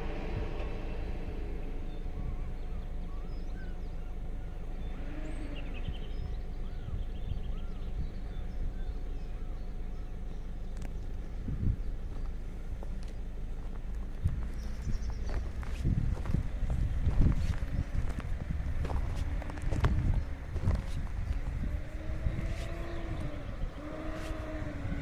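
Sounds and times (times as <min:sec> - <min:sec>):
vehicle engine passing: 0:00.0 - 0:06.9, 0:09.2 - 0:25.0
low outdoor rumble: 0:00.0 - 0:25.0
small birds chirping: 0:01.8 - 0:25.0.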